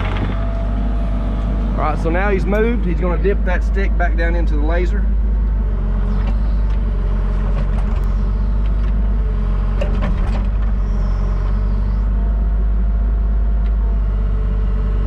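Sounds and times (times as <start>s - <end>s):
hydraulics lowering: 0.0s - 12.3s
excavator diesel engine running: 0.0s - 15.0s.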